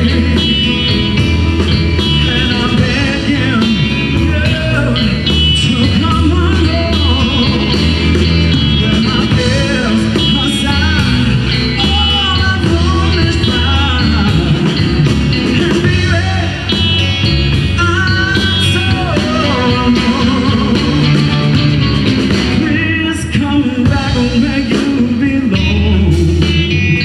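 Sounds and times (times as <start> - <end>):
blues band playing live: 0.0 - 27.0.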